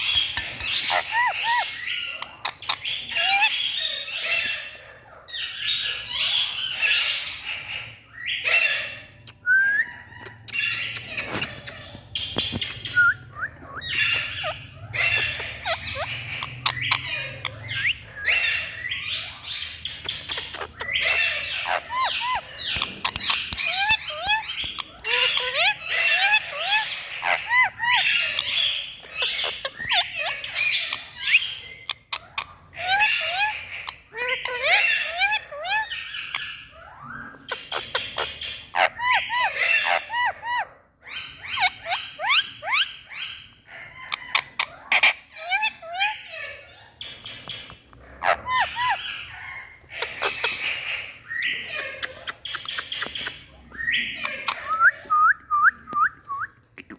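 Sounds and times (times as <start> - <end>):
parakeet screeching and chirping: 0.0 - 55.1.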